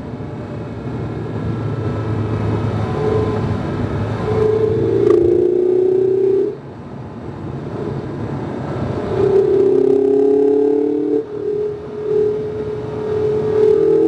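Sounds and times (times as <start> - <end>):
car engine: 0.0 - 14.0.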